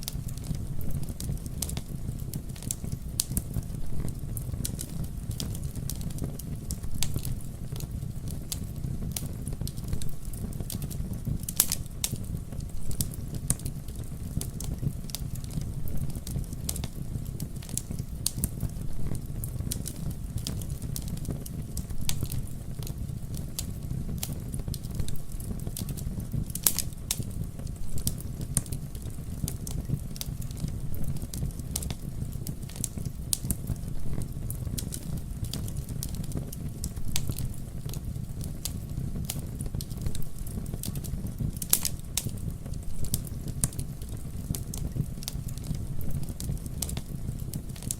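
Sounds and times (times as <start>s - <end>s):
fire crackling and popping: 0.0s - 47.9s
wood fire rumbling: 0.0s - 47.9s.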